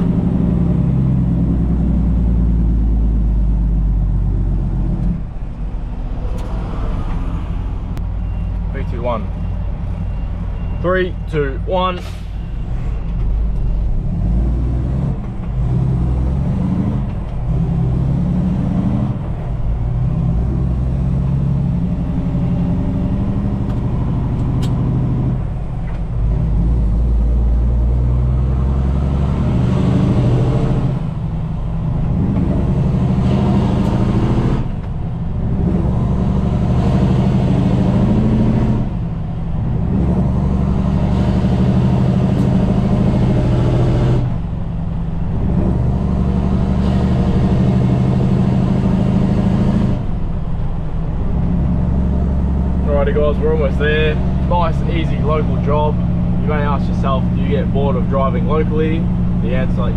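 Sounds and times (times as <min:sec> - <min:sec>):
diesel truck engine under load: 0:00.0 - 0:59.9.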